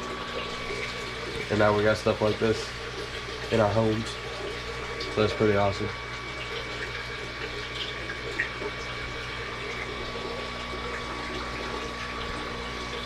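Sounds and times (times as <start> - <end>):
thin steady whine: 0.0 - 13.0.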